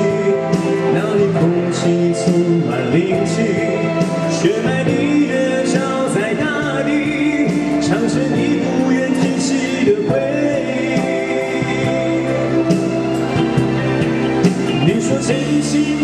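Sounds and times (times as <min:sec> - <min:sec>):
man singing into a microphone: 0:00.0 - 0:13.3, 0:14.5 - 0:16.0
electronic keyboard: 0:00.0 - 0:16.0
guitar: 0:00.0 - 0:16.0.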